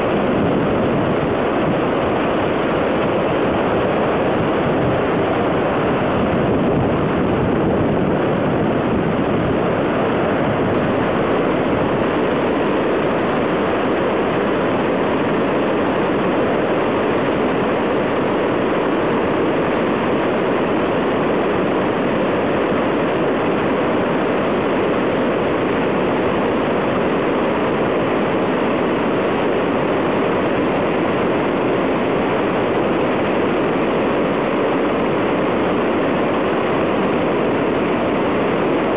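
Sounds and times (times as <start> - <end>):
floodwater roaring through gorge: 0.0 - 38.9.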